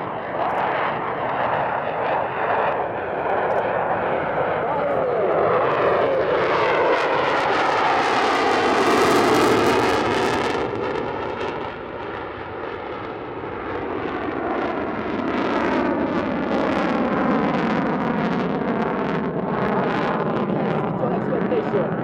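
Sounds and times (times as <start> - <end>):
jet engine passing in flight: 0.0 - 22.0.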